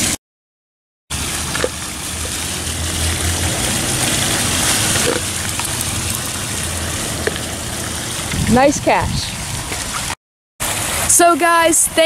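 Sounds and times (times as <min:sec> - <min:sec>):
fountain water splashing: 0:01.1 - 0:12.0.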